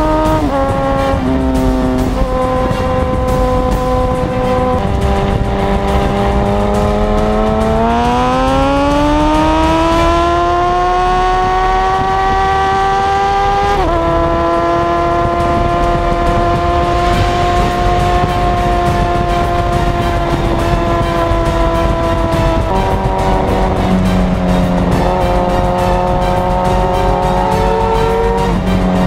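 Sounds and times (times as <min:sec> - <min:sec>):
motorcycle engine accelerating: 0:00.0 - 0:29.0
wind rumble on microphone: 0:00.0 - 0:29.0.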